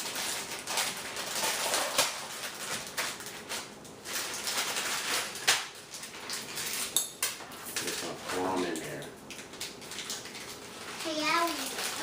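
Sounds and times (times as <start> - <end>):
plastic wrappers crinkling: 0.0 - 7.0, 7.6 - 12.0.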